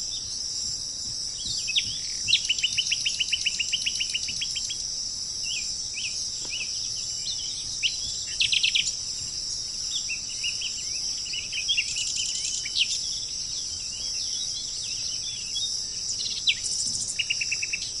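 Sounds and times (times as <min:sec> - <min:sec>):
high-pitched insect drone: 0:00.0 - 0:18.0
small birds chirping: 0:00.0 - 0:18.0.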